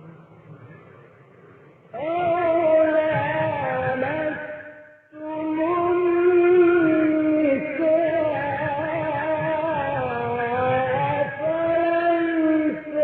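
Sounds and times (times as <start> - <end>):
man chanting melodic recitation: 2.0 - 13.0.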